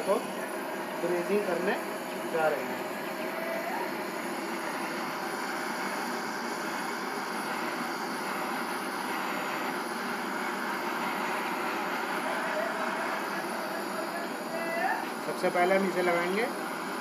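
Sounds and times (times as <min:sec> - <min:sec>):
torch flame hissing: 0:00.0 - 0:17.0.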